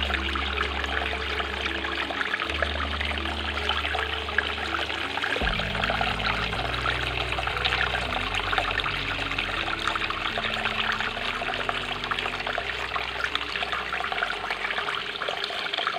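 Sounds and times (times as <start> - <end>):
fountain water splashing and trickling: 0.0 - 15.9.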